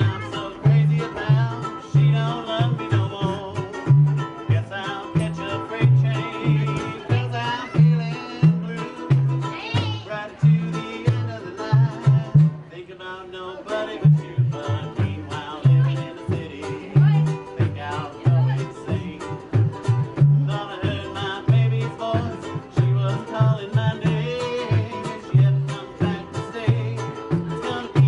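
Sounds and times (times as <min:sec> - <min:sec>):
banjo strummed: 0:00.0 - 0:12.7, 0:13.6 - 0:28.0
plucked washtub bass: 0:00.0 - 0:12.7, 0:13.6 - 0:28.0.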